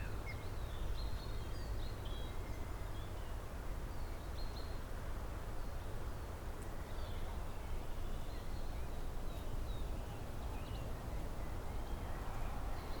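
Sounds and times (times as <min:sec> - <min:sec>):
songbirds chirping faintly: 0:00.0 - 0:13.0.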